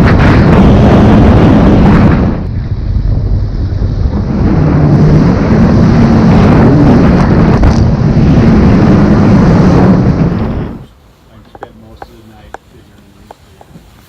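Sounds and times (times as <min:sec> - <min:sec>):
jet ski engine hum: 0:00.0 - 0:14.0
wind buffeting microphone: 0:00.0 - 0:14.0.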